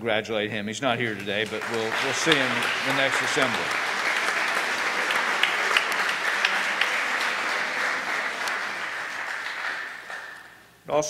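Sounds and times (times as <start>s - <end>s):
audience applauding: 1.0s - 10.6s.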